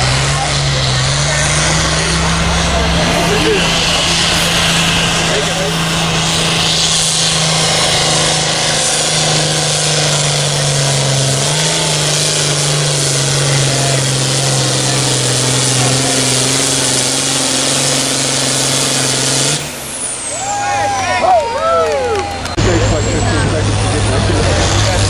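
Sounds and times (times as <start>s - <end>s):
tractor engine at full throttle: 0.0s - 25.0s.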